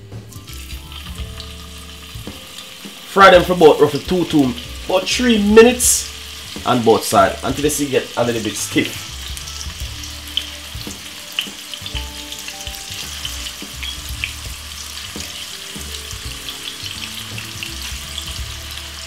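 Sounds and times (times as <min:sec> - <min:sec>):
sausages sizzling in frying pan: 0:00.0 - 0:19.0
oil crackling and popping: 0:00.3 - 0:19.0.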